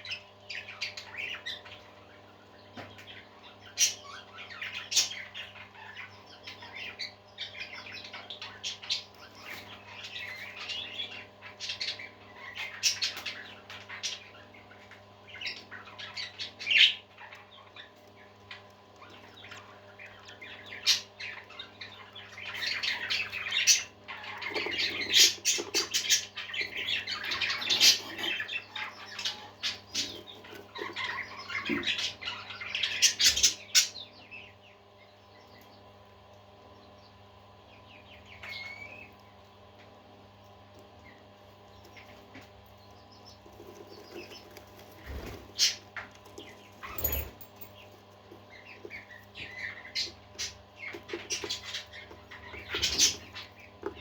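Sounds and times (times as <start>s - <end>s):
parakeets chattering: 0.0s - 54.0s.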